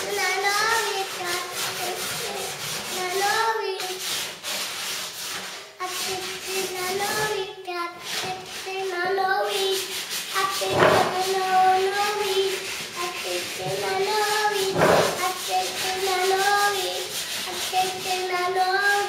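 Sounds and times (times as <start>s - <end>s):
child singing: 0.0s - 4.1s, 5.8s - 19.0s
rhythmic scraping on wood: 0.0s - 19.0s.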